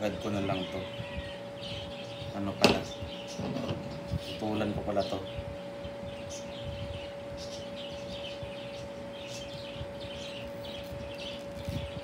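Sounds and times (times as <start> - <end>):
electrical hum: 0.0 - 12.0
small birds chirping: 0.0 - 12.0.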